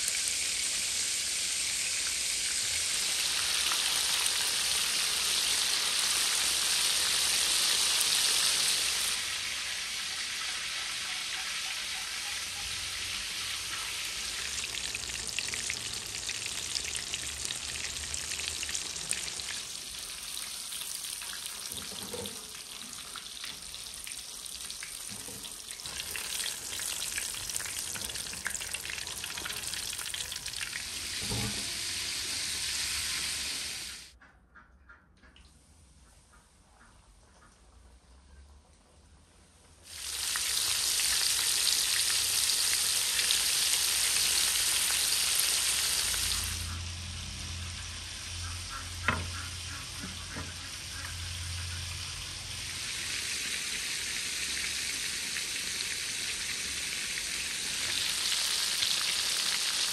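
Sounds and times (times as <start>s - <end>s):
chicken deep-frying in oil: 0.0s - 34.1s, 39.8s - 59.9s.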